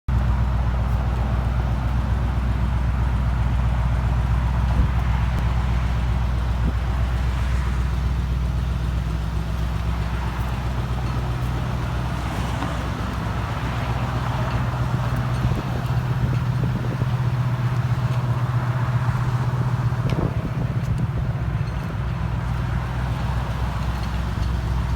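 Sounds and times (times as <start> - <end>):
car engine running: 0.1 - 24.9.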